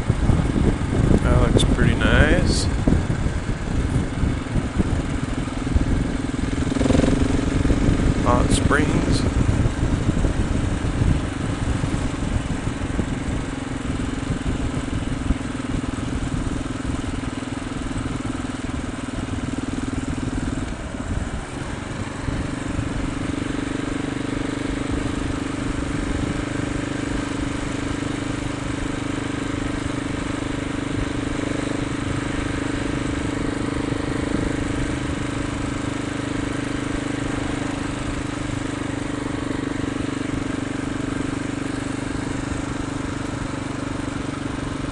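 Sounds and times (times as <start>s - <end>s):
motorcycle engine cruising: 0.0s - 44.9s.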